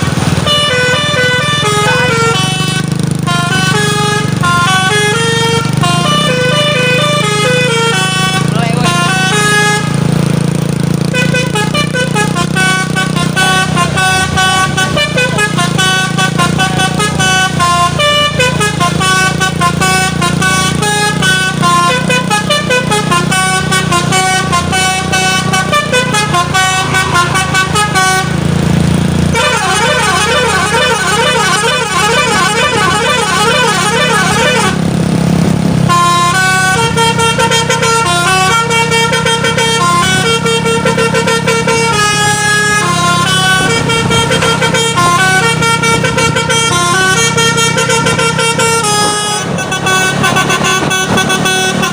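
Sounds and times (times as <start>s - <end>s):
truck engine running: 0.0s - 51.9s
truck multi-tone horn tune: 0.0s - 51.9s.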